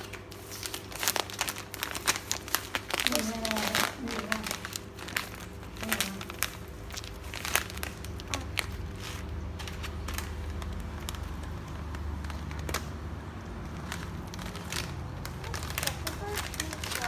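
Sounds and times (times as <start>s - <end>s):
plastic packet crinkling: 0.0s - 17.0s
steady low hum: 0.0s - 17.0s.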